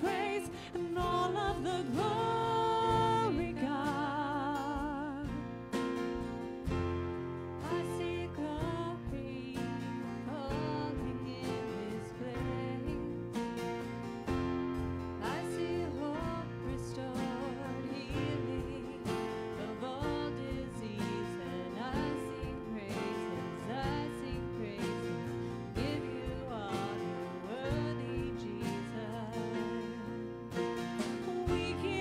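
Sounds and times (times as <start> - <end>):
live band playing a song: 0.0 - 32.0.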